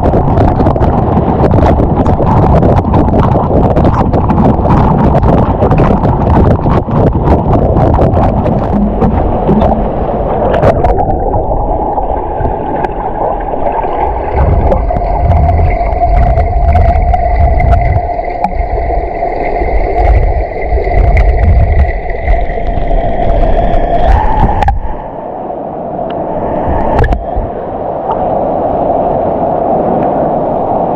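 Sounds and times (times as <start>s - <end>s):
muffled underwater gurgling: 0.0s - 25.2s, 26.1s - 28.3s
steady hum: 0.0s - 30.8s.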